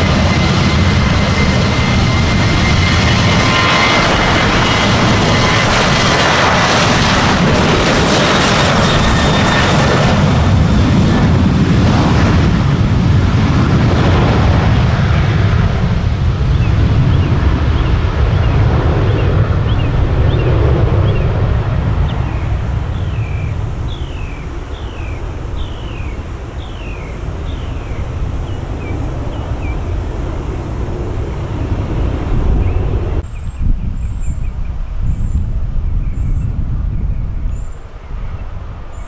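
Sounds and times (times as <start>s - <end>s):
deep jet rumble: 0.0s - 39.0s
faint engine whine: 0.0s - 39.0s
jet engines at takeoff power: 0.0s - 39.0s.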